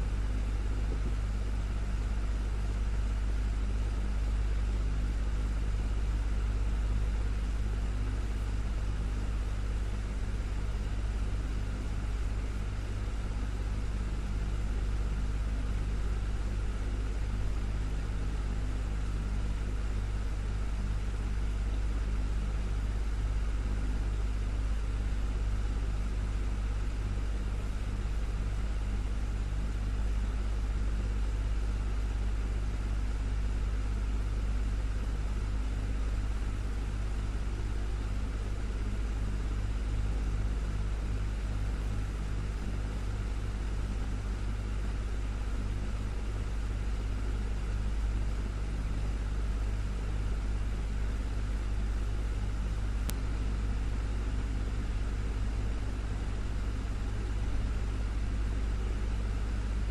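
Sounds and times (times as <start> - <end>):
desktop fan motor hum: 0.0 - 59.9.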